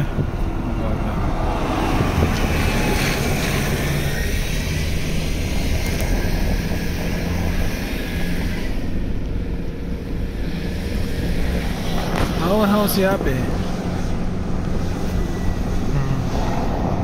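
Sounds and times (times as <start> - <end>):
car engine and road noise: 0.0 - 17.0
wind noise: 0.0 - 17.0.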